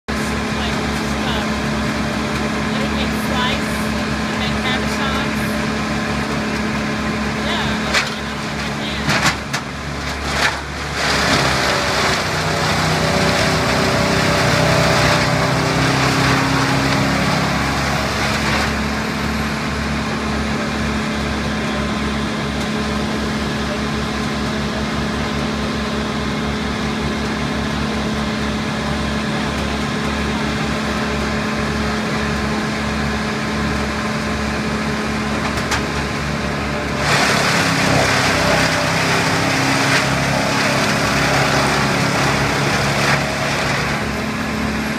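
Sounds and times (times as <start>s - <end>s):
tree chipper engine running: 0.0s - 44.9s
trees grinding through chipper: 0.1s - 44.9s.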